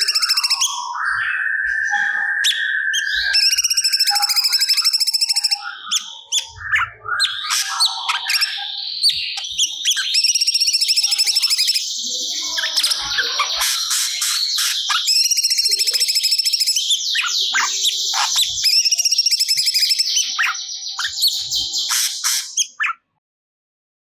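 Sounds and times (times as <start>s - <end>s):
bird singing rapid chirps: 0.0s - 23.0s.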